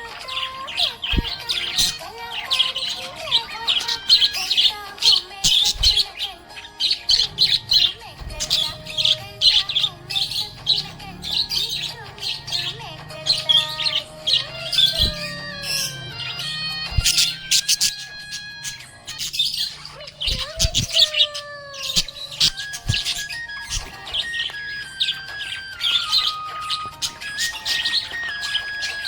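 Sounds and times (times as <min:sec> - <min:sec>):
budgerigars chirping: 0:00.0 - 0:29.0
music playing: 0:00.0 - 0:29.0.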